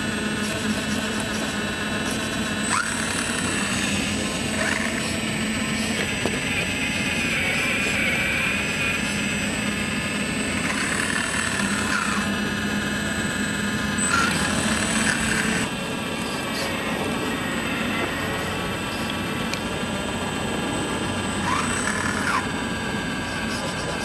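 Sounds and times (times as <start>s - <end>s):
hydraulic pump whining: 0.0s - 24.0s.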